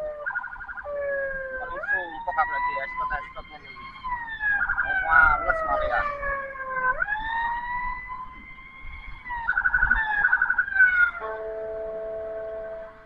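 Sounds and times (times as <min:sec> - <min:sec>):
ambulance siren wailing: 0:00.0 - 0:13.0.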